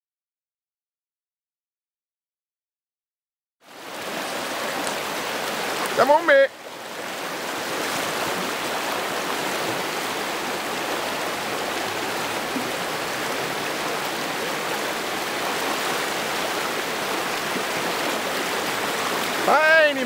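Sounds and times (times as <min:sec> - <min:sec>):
river rushing over rocks: 0:03.7 - 0:20.0.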